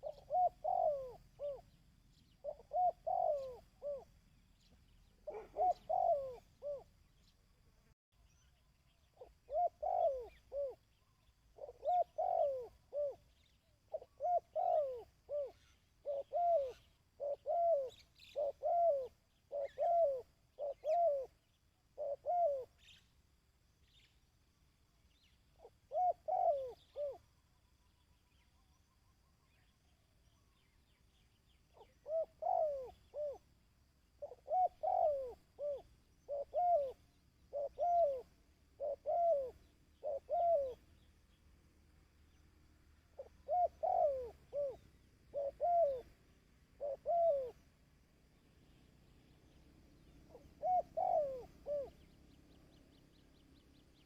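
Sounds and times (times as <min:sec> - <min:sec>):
dove cooing: 0:00.0 - 0:07.3, 0:09.0 - 0:23.0, 0:25.1 - 0:27.4, 0:31.7 - 0:41.1, 0:43.1 - 0:54.0.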